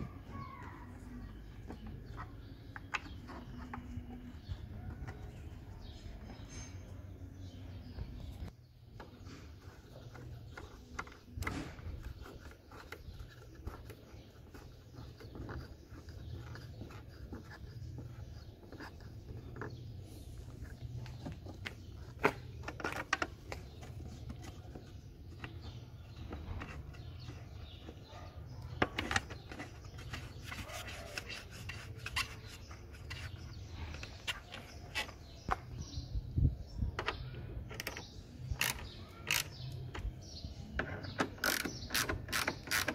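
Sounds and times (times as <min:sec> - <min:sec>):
fingers clicking plastic parts: 0:00.6 - 0:05.5, 0:09.0 - 0:28.0, 0:28.6 - 0:35.8, 0:36.8 - 0:42.9.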